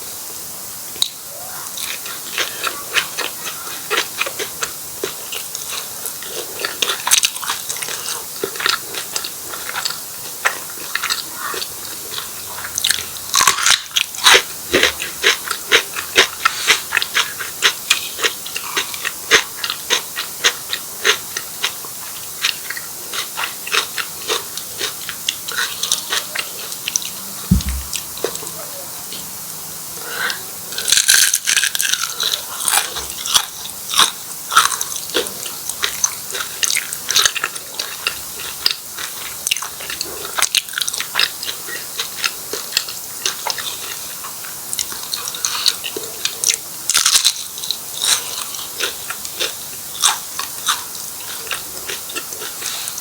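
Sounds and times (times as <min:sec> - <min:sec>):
crunching bites and chewing: 0:01.8 - 0:28.4, 0:30.8 - 0:53.0.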